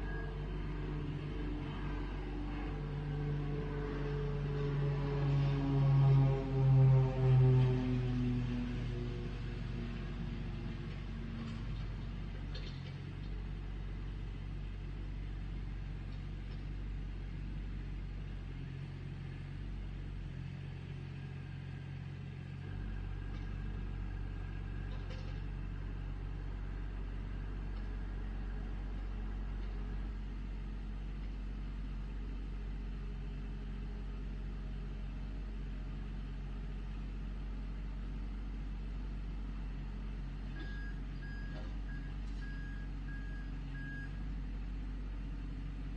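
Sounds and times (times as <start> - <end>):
backhoe engine running: 0.0 - 45.9.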